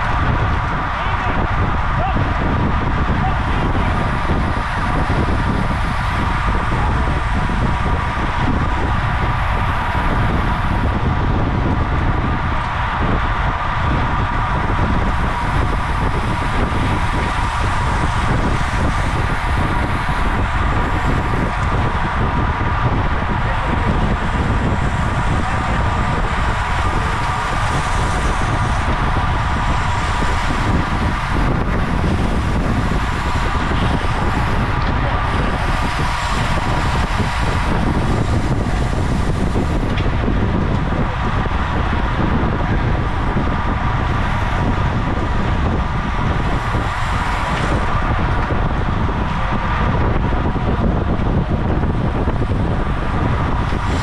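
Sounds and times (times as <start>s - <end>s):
faint steady whine: 0.0s - 54.0s
wind buffeting microphone: 0.0s - 54.0s.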